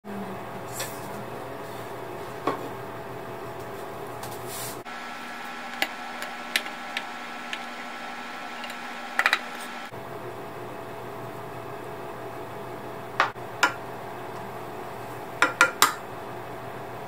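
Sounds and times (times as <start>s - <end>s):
kitchen room hum: 0.0s - 17.0s.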